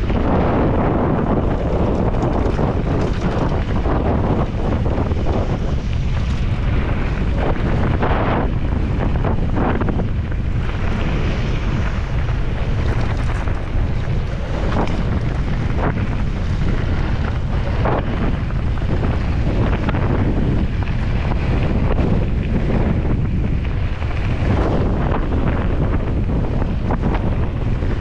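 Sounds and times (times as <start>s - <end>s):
bike knocking and rattling: 0.0s - 28.0s
tyres crunching on gravel: 0.0s - 28.0s
wind buffeting microphone: 0.0s - 28.0s.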